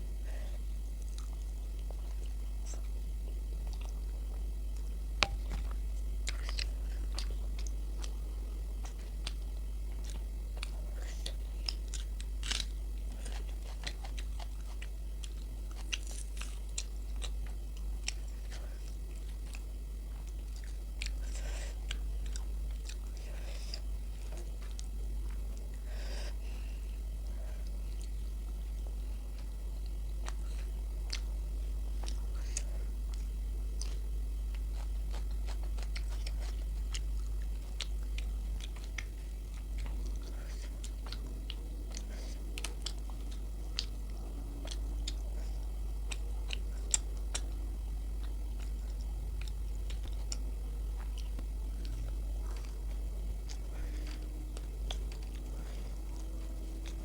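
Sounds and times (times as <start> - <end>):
low hum: 0.0 - 57.0
close chewing and biting: 0.9 - 25.9, 27.2 - 57.0.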